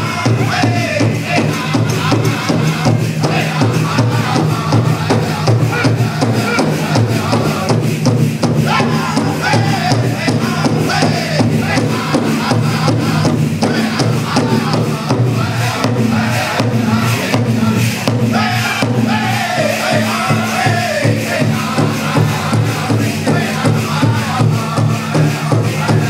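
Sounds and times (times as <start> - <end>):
group of voices singing: 0.0 - 26.0
steady beat on large drum: 0.0 - 26.0.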